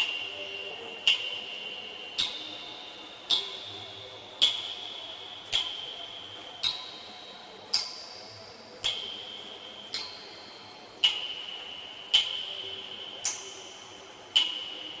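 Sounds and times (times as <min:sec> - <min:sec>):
water dripping into cistern: 0:01.0 - 0:15.0.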